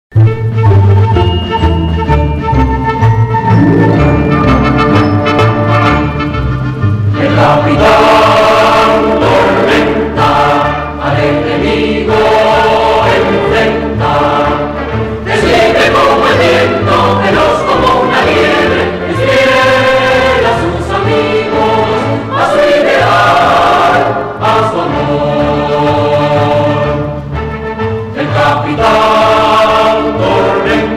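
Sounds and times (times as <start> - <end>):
orchestra accompaniment: 0.2 - 30.9
choir singing: 3.4 - 6.3, 7.1 - 27.2, 28.1 - 30.9.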